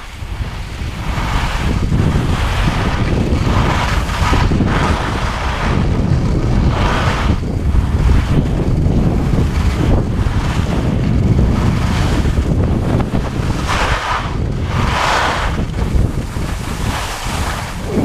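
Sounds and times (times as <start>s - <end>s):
skis scraping snow: 0.0s - 18.0s
wind buffeting microphone: 0.0s - 18.0s.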